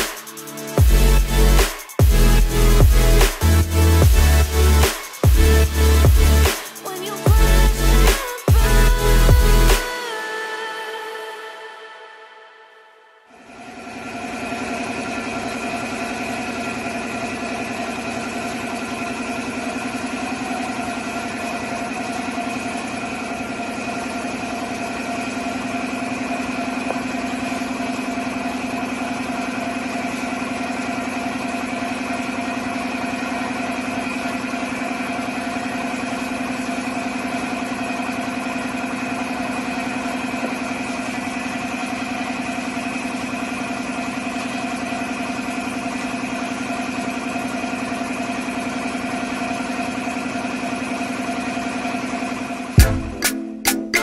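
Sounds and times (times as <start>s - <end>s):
air compressor motor hum: 0.0s - 10.0s, 13.4s - 53.2s.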